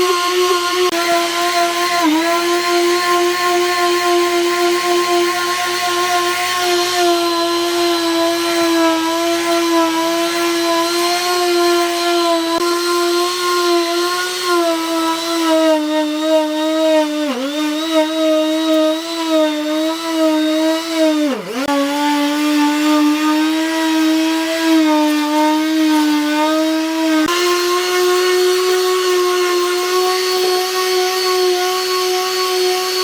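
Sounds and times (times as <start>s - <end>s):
power tool motor whine: 0.0s - 33.0s.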